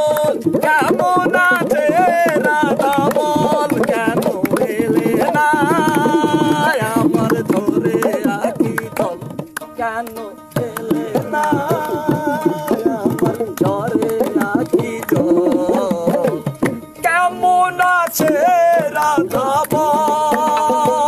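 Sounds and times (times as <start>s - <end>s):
hand drum beating: 0.0s - 21.0s.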